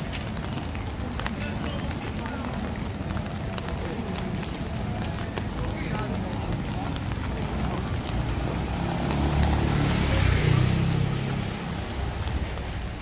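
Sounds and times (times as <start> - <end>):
car passing on wet road: 0.0 - 13.0.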